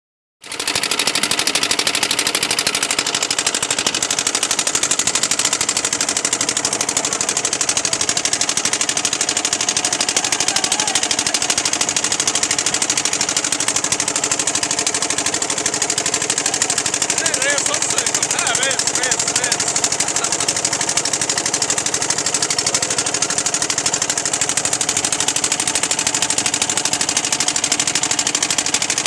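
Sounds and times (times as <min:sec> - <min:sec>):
boat engine chugging: 0:00.4 - 0:29.0.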